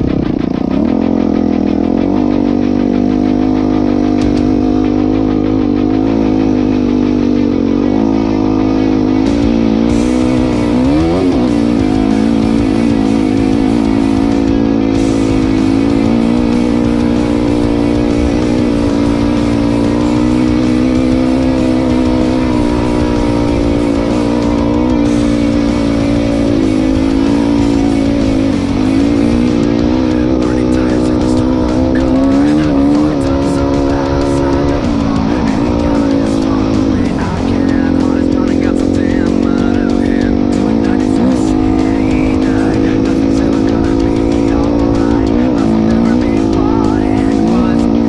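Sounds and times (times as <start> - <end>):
dirt bike engine running: 0.0 - 48.0
rock music with electric guitar: 0.0 - 48.0.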